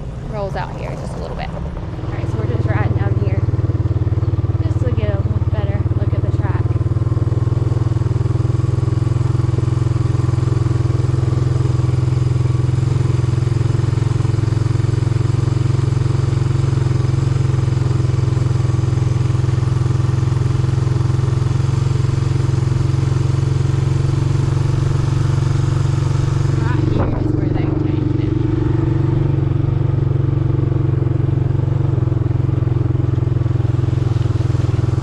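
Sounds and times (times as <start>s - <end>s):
small vehicle engine droning: 0.0s - 35.0s.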